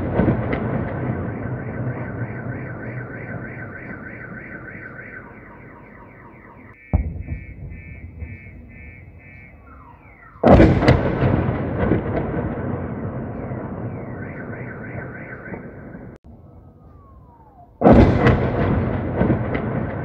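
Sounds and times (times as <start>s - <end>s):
artillery shells exploding: 0.0s - 4.9s, 6.8s - 16.2s, 17.8s - 20.0s
car alarm siren: 0.0s - 20.0s.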